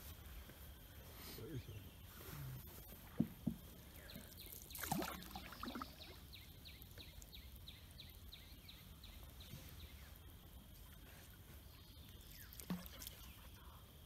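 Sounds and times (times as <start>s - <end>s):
river ambience: 0.0s - 14.0s.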